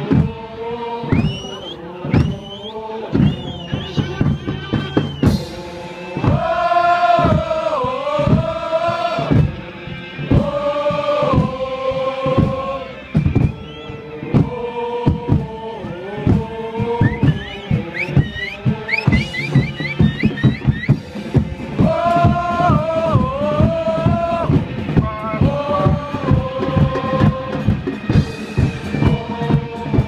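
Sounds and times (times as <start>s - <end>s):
crowd chanting in unison: 0.0s - 30.0s
drum beating steadily: 0.0s - 30.0s.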